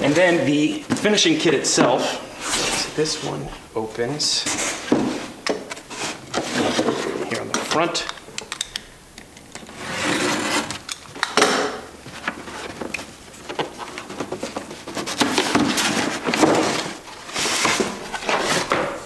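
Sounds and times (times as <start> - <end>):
cardboard flaps scraping and rustling: 0.1 - 7.5, 9.7 - 10.8, 12.0 - 19.0.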